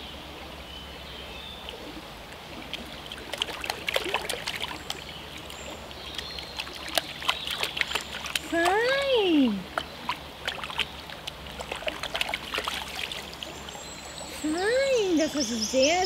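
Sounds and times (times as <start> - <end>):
water splashing and sloshing: 1.5 - 15.4.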